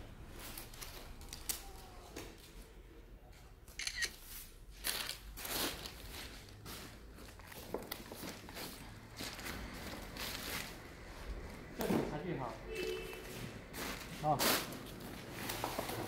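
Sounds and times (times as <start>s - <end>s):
crinkling: 0.3s - 2.6s, 3.7s - 16.0s.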